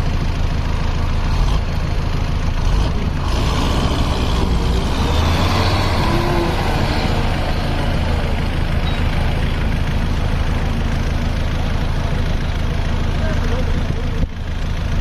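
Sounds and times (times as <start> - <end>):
backhoe loader working: 0.0 - 15.0
heavy diesel engines droning: 0.0 - 15.0.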